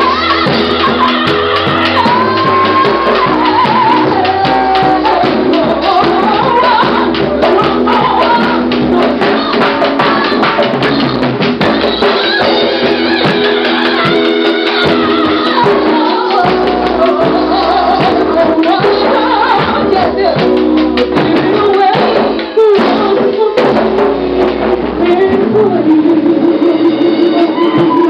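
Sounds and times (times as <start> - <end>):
backing music with steady beat: 0.0 - 28.0
woman singing into a microphone: 0.0 - 28.0.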